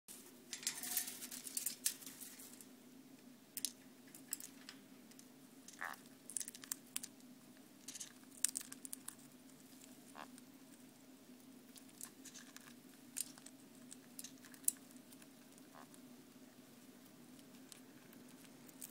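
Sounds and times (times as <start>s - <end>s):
beak clicks and crackles: 3.6s - 18.9s.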